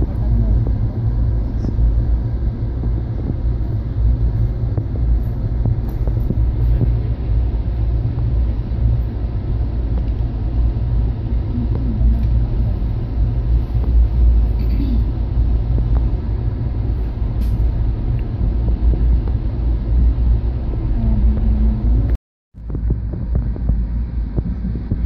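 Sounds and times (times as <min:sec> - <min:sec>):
vehicle interior rumble: 0:00.0 - 0:25.0.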